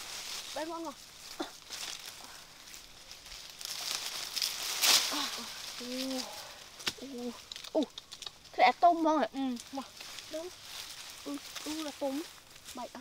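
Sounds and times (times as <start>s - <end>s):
leafy branches rustling: 0.0s - 13.0s.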